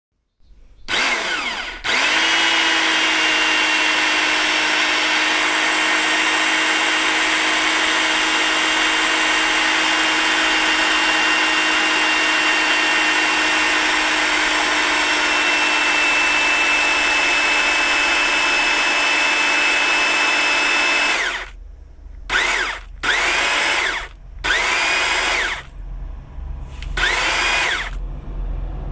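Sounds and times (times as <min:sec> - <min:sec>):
electric chainsaw motor whine: 0:00.9 - 0:21.6, 0:22.3 - 0:25.8, 0:26.9 - 0:28.0.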